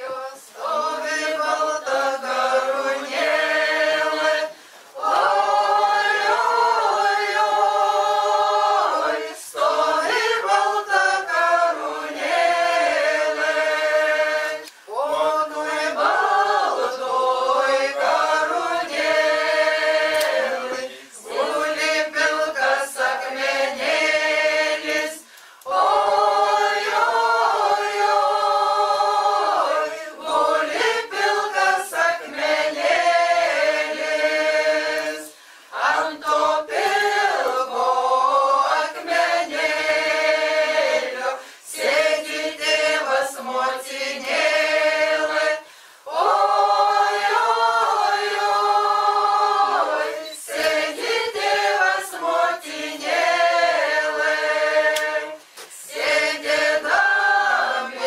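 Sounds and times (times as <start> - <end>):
unaccompanied choir singing: 0.0 - 58.0.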